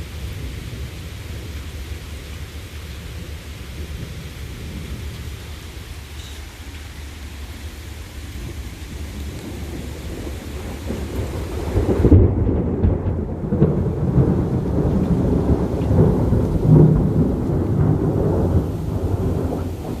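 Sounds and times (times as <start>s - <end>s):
rain hissing: 0.0s - 20.0s
rolling thunder rumble: 0.0s - 20.0s.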